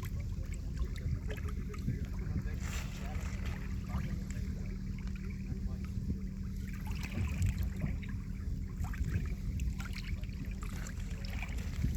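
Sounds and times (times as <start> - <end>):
low wind rumble: 0.0 - 11.9
small waves lapping: 0.0 - 11.9.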